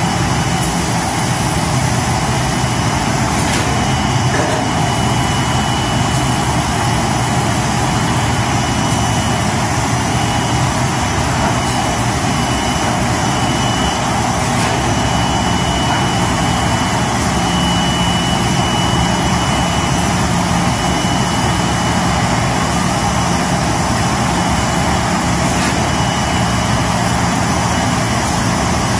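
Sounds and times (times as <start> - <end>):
laminating machine running: 0.0 - 28.9.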